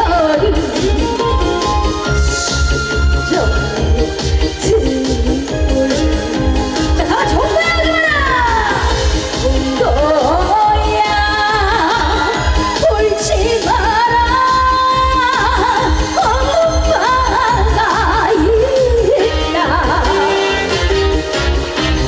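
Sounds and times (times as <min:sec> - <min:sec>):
woman singing with vibrato: 0:00.0 - 0:20.8
band with thumping bass beat: 0:00.0 - 0:22.0.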